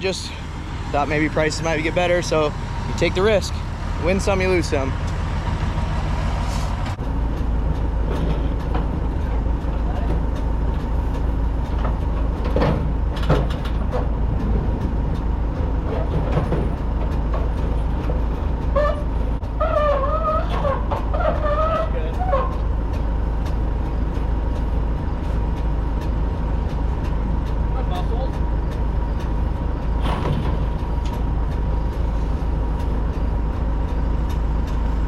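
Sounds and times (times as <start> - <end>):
truck engine humming: 0.0 - 35.0.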